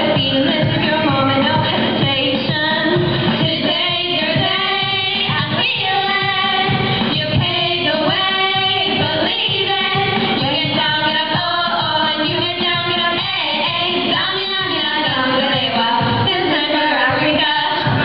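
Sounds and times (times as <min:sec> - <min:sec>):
amplified accompaniment with beat: 0:00.0 - 0:18.0
girls singing pop song: 0:00.0 - 0:18.0.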